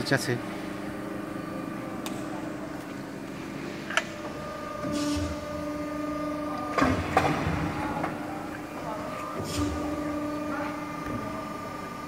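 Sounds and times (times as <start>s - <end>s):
hydraulic pump hum: 0.0s - 12.0s.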